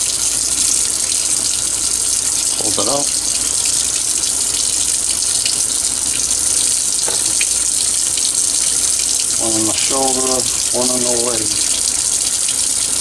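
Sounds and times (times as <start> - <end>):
faucet running into sink: 2.2 - 13.0.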